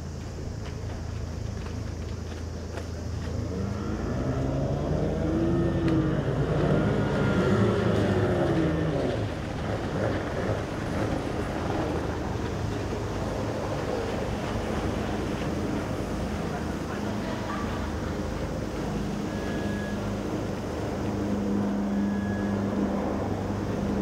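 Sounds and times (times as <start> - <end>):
outboard engines passing: 0.0 - 24.0.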